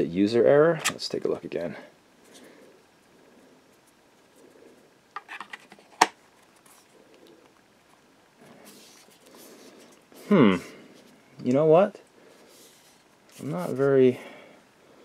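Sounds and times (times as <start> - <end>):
soft handling rustle: 1.6 - 14.4.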